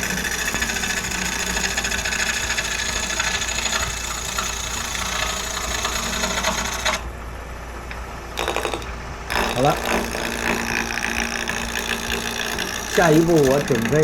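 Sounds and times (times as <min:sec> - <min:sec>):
gouge scraping wood on lathe: 0:00.0 - 0:07.1, 0:08.4 - 0:14.0
lathe hum: 0:00.0 - 0:14.0.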